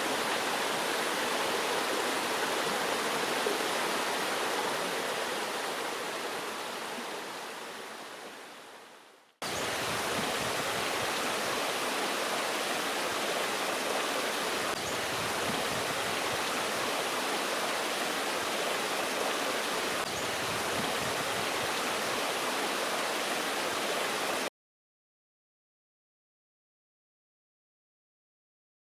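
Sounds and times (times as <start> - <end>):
stream water rushing: 0.0 - 24.5.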